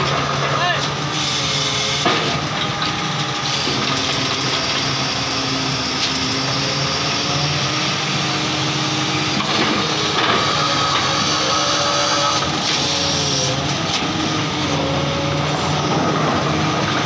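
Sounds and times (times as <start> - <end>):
drilling rig machine noise: 0.0 - 17.0.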